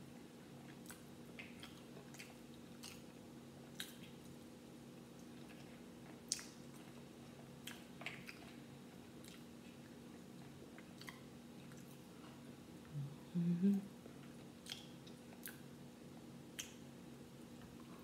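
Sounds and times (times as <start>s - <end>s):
steady low hum: 0.0s - 18.0s
faint chewing: 0.5s - 4.4s, 5.0s - 13.0s, 13.7s - 16.8s.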